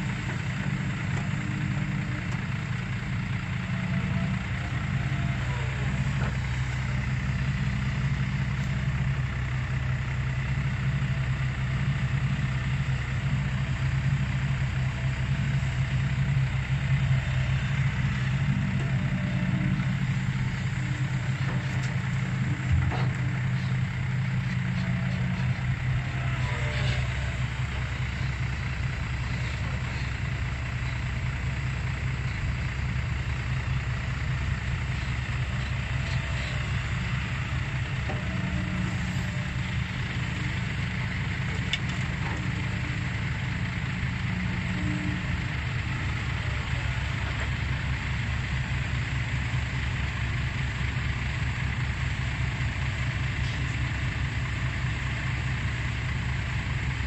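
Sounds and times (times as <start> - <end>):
excavator diesel engine running: 0.0 - 57.0
faint whines: 0.2 - 32.8, 33.4 - 48.7.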